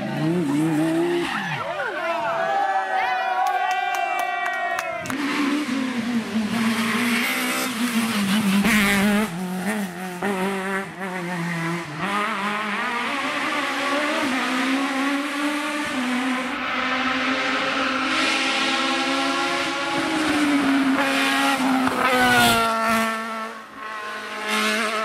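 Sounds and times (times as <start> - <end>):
rally car engine at full throttle: 0.0 - 2.3, 4.9 - 25.0
race car engine note climbing: 4.9 - 25.0.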